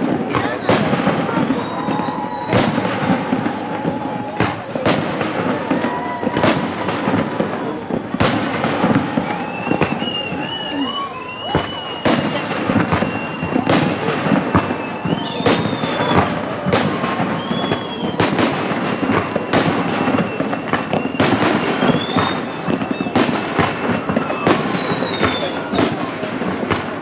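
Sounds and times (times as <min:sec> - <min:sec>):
firework crackling: 0:00.0 - 0:27.0
firework whistling: 0:00.0 - 0:27.0.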